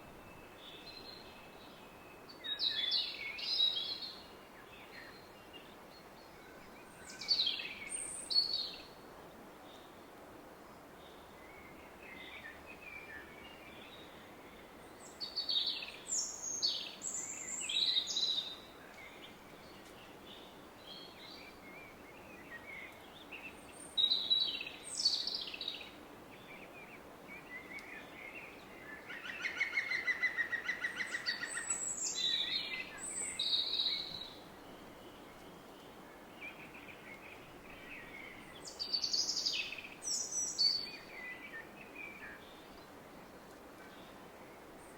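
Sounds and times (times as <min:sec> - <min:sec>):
songbirds singing: 0:00.0 - 0:09.0, 0:10.7 - 0:44.9.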